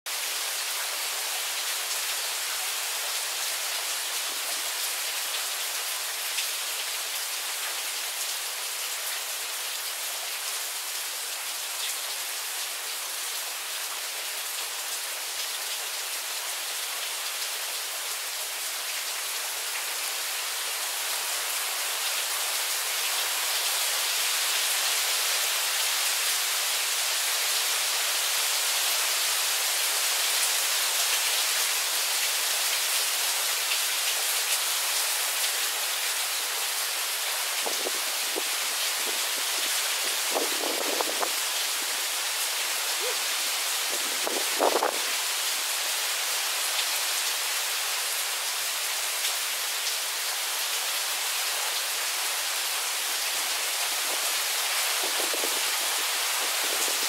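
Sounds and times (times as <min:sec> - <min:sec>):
steady rain shower: 0:00.0 - 0:57.0.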